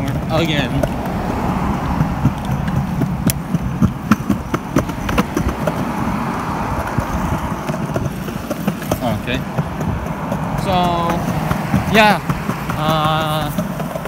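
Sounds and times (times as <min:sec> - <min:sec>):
bicycle tyres rumbling on concrete: 0:00.0 - 0:14.0
bike clicking and rattling: 0:00.0 - 0:14.0.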